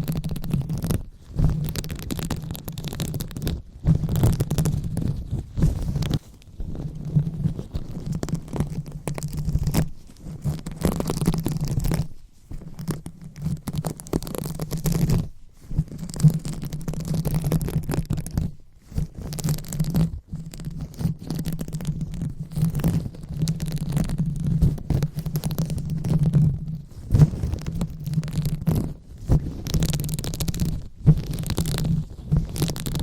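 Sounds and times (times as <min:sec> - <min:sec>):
rubbing and scratching on microphone: 0:00.0 - 0:33.0.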